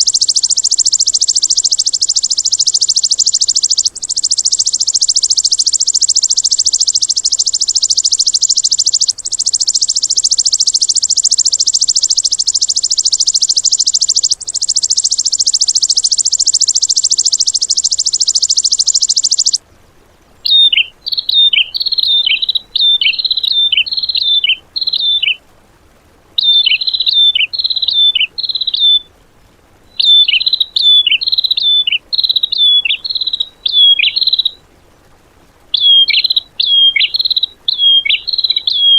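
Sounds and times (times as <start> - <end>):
songbird downslurred chirps: 0.0 - 19.6, 20.4 - 25.4, 26.4 - 29.2, 29.9 - 34.7, 35.7 - 38.9
songbird fast high trill: 0.0 - 19.6, 20.4 - 25.4, 26.4 - 29.2, 29.9 - 34.7, 35.7 - 38.9.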